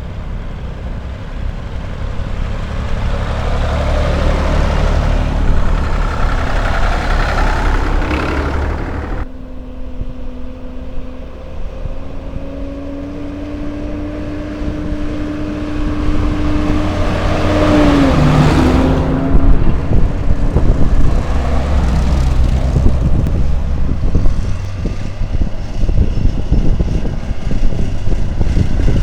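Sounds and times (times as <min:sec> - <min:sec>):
tractor engine running: 0:00.0 - 0:09.4, 0:14.6 - 0:29.0.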